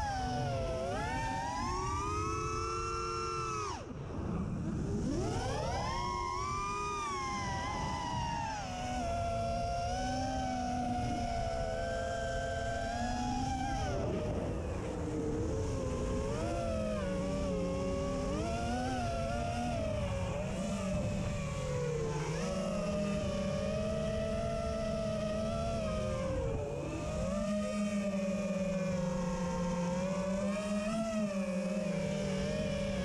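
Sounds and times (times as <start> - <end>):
quadcopter motors whining: 0.0 - 33.0.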